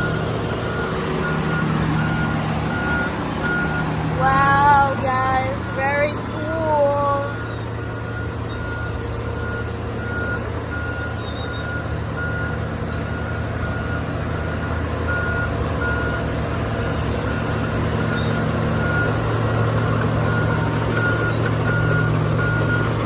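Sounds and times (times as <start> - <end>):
diesel engine running: 0.0 - 23.0
reversing alarm beeping: 0.0 - 23.0.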